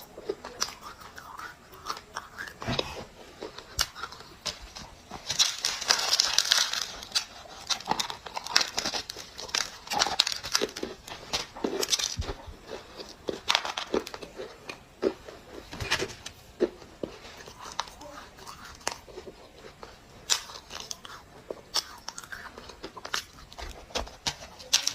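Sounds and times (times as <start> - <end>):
dry clay crunching: 0.0 - 24.9.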